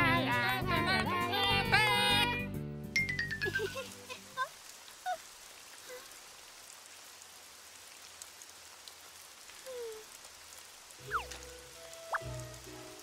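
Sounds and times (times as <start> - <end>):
steady rain falling: 0.1 - 13.0.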